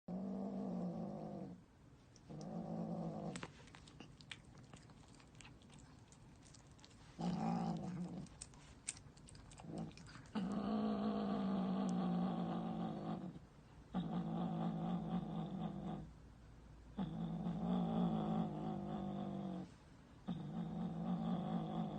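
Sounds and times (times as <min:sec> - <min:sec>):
cat growling: 0:02.2 - 0:16.1, 0:17.0 - 0:19.7, 0:20.3 - 0:21.9.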